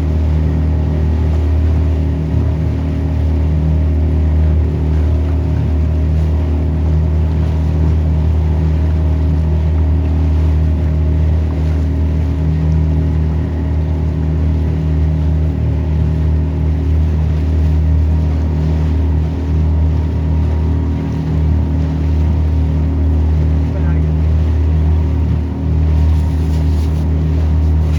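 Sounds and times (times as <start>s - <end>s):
motorboat engine droning: 0.0s - 27.9s.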